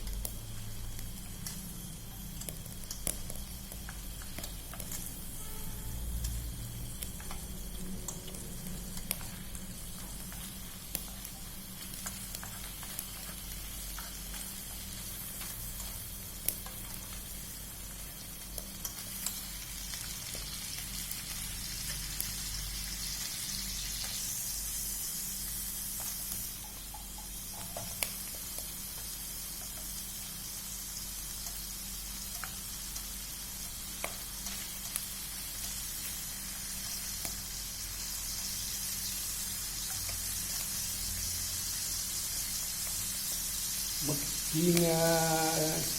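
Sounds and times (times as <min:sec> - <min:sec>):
food sizzling in hot oil: 0:00.0 - 0:45.9.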